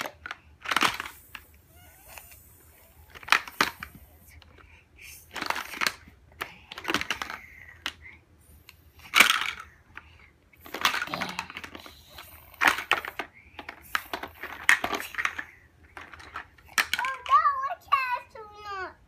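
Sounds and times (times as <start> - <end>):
plastic blocks clicking and clattering: 0.0 - 2.5, 3.1 - 4.6, 5.2 - 8.0, 9.0 - 18.7.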